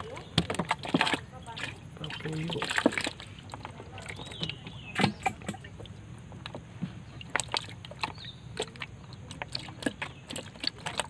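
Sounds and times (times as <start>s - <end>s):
water sloshing: 0.0s - 11.0s.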